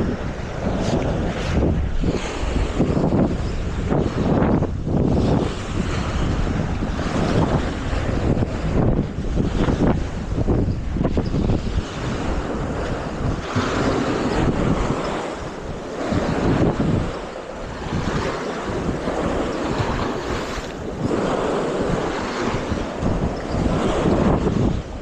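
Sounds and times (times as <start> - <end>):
waves washing on beach: 0.0 - 25.0
wind buffeting microphone: 0.0 - 25.0.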